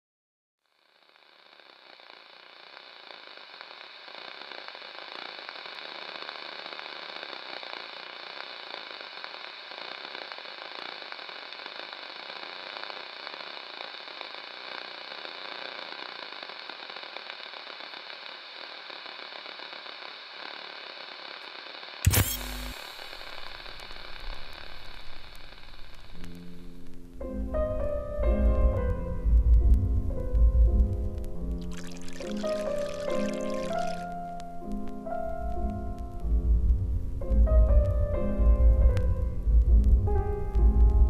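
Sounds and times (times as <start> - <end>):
crackling static hiss: 0.6 - 41.0.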